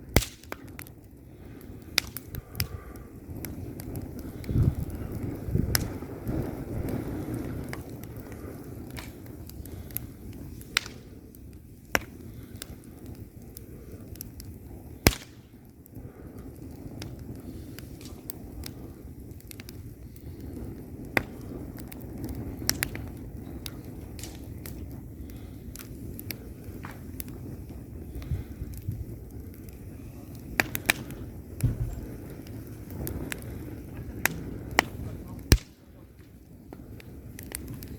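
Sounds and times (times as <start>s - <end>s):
burning logs crackling and popping: 0.0s - 37.9s
fire rumbling in fireplace: 0.0s - 37.9s.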